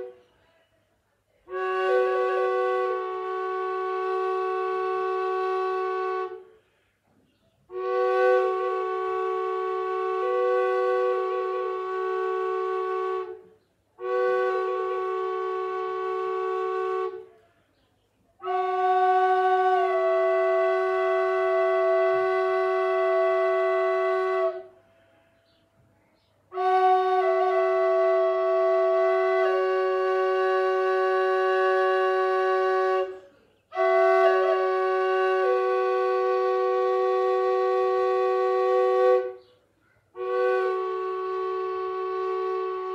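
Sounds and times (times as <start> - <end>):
double drone flute melody: 1.5 - 6.5, 7.7 - 17.3, 18.4 - 24.8, 26.5 - 39.5, 40.1 - 42.9.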